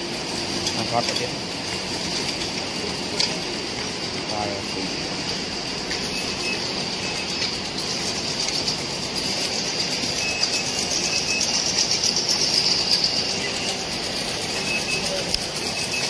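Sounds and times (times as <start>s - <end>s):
machine hiss: 0.0s - 16.0s
machine whirring and rattling: 0.0s - 16.0s.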